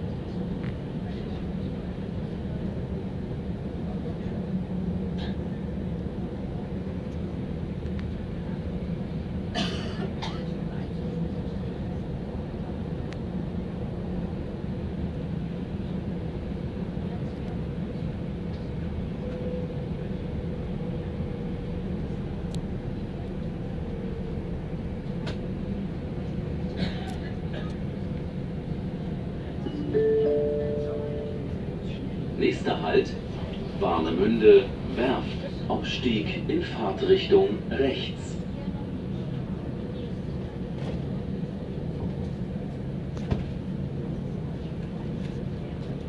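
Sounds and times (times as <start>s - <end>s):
train running on rails: 0.0s - 46.0s.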